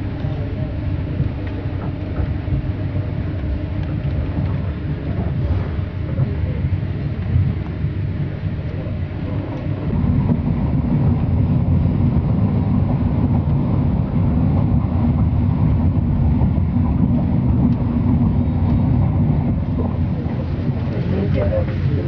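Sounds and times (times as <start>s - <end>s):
train low rumble: 0.0s - 22.0s.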